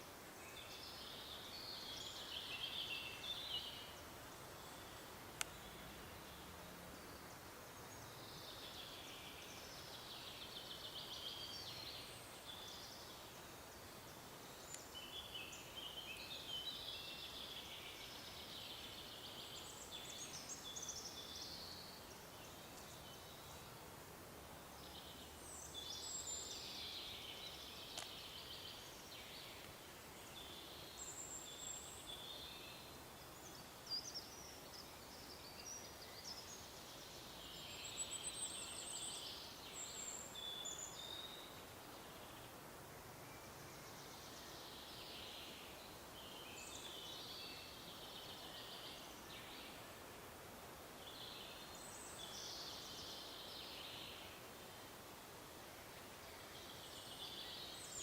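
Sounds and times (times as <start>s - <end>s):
faint forest hiss: 0.0s - 58.0s
songbirds singing: 0.0s - 58.0s.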